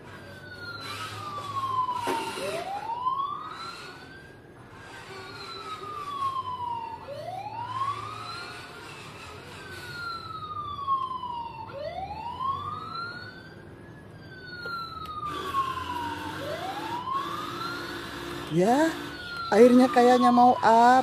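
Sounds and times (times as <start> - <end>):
toy electronic siren wailing: 0.0 - 21.0.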